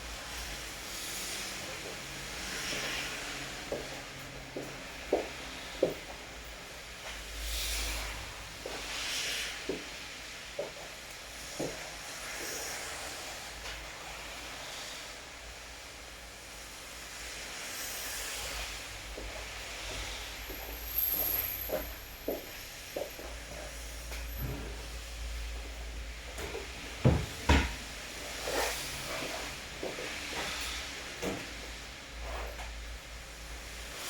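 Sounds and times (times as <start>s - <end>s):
steady rain hiss: 0.0s - 5.9s, 6.7s - 24.4s, 25.0s - 34.0s.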